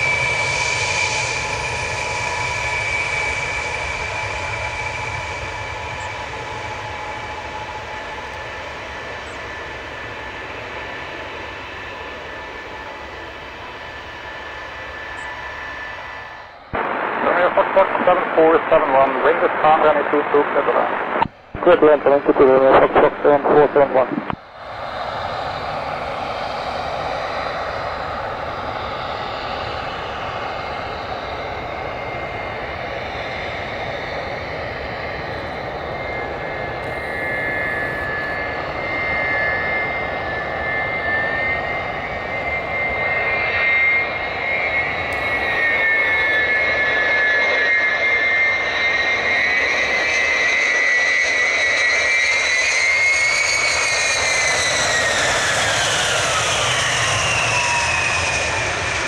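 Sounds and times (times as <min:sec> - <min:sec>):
jet airliner rush with whine: 0:00.0 - 0:59.0.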